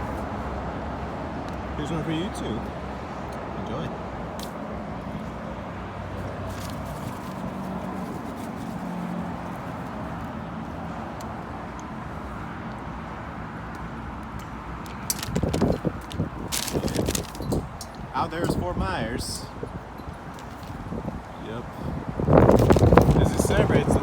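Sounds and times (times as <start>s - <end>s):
road traffic: 0.0s - 24.0s
wind: 0.0s - 24.0s.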